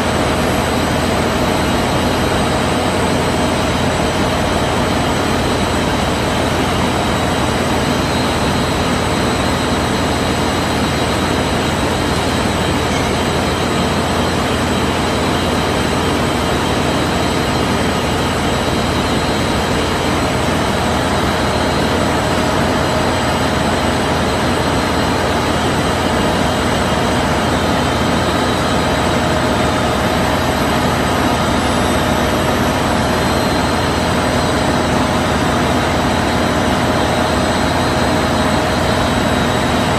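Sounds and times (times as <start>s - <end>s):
washing machine mechanical drone: 0.0s - 39.9s.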